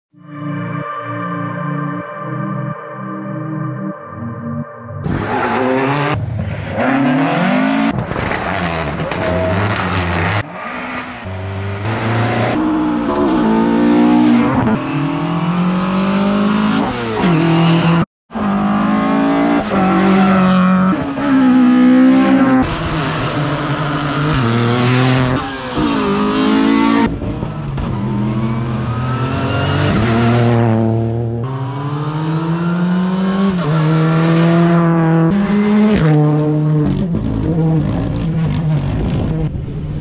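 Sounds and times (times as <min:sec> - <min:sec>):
rally car engines accelerating: 0:05.0 - 0:40.0.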